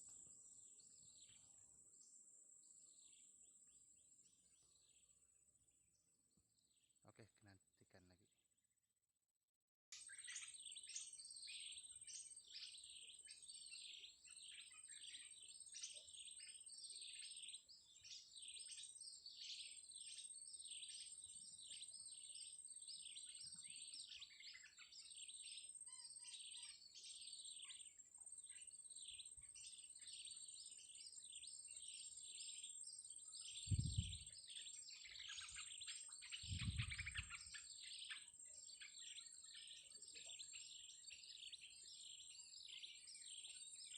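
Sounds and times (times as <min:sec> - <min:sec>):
small birds chirping: 0:00.0 - 0:08.5, 0:09.9 - 0:43.9.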